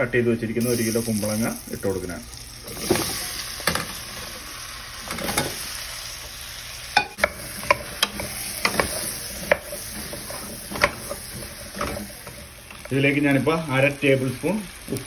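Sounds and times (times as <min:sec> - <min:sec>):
food sizzling in a pot: 0:00.6 - 0:15.0.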